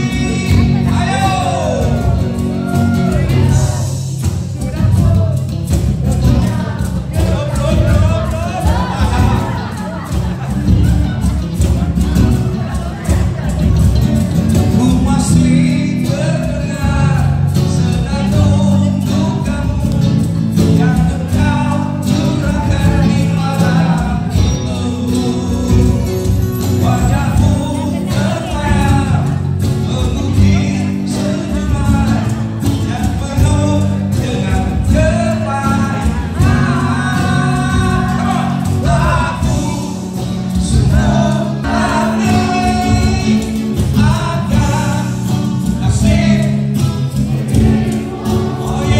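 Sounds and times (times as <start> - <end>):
person singing: 0.0 - 13.8, 14.4 - 48.9
band playing: 0.0 - 48.9.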